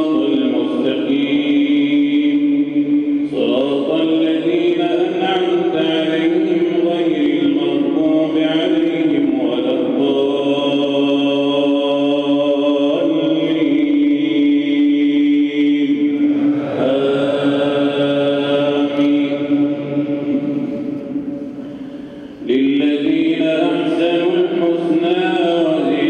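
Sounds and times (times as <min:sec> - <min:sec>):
man chanting into microphone: 0:00.0 - 0:26.0.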